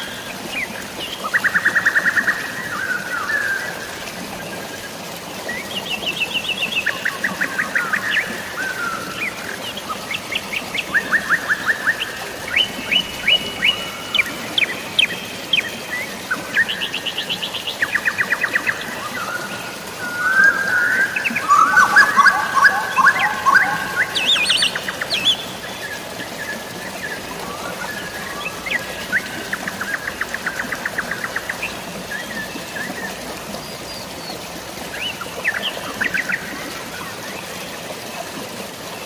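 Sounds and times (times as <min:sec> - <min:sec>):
flowing water: 0:00.0 - 0:39.0
rain hiss: 0:00.0 - 0:39.0
songbirds trilling: 0:05.7 - 0:37.3.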